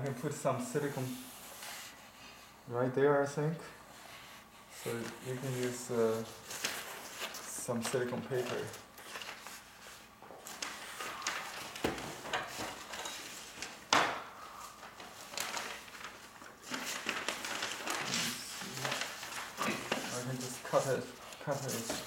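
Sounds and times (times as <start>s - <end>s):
paper rustling: 4.1s - 22.0s.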